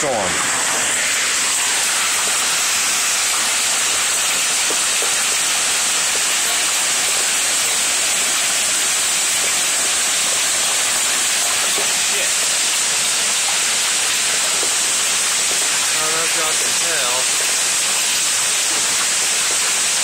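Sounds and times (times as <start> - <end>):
heavy rain and hail: 0.0 - 20.0.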